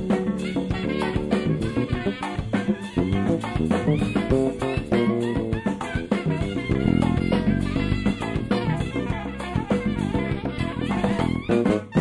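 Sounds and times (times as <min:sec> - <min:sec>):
jazz-funk band playing: 0:00.0 - 0:12.0.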